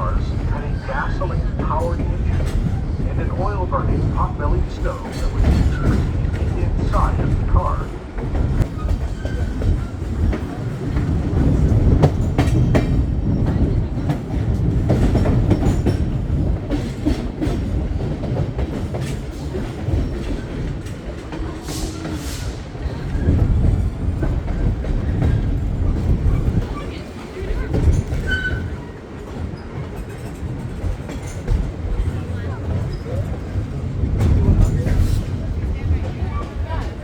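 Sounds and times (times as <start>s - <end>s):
train rumbling on track: 0.0s - 37.0s.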